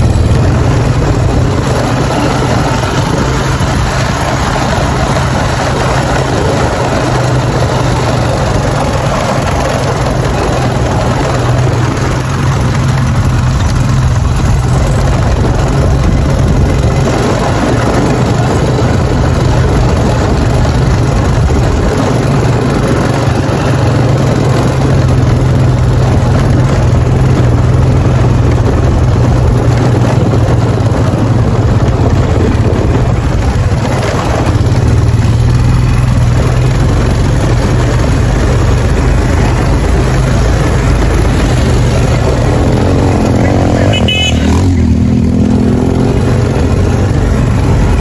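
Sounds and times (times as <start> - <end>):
motorcycle engine running: 0.0 - 48.0
road noise: 0.0 - 48.0
wind rush: 0.0 - 48.0.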